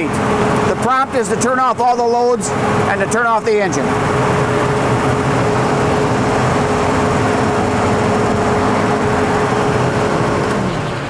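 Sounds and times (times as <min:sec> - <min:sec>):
constant whine: 0:00.0 - 0:11.0
tractor diesel engine idling: 0:00.0 - 0:11.0.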